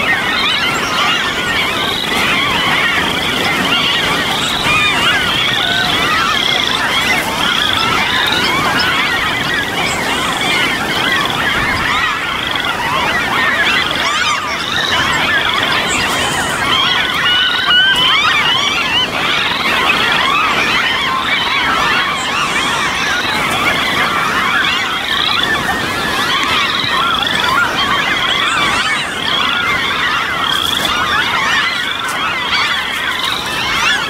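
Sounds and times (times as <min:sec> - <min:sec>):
birds calling: 0:00.0 - 0:34.0
frogs calling: 0:00.0 - 0:34.0.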